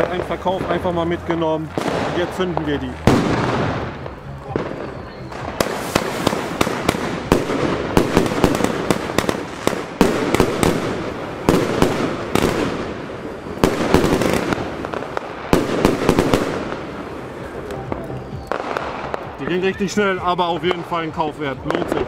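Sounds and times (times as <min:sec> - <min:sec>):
firework battery bangs: 0:00.0 - 0:21.0
continuous noisy rush: 0:00.0 - 0:22.0.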